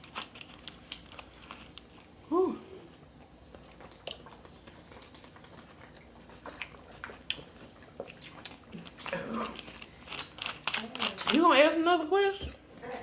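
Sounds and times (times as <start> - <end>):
chewing with small crackles: 0.0 - 12.0.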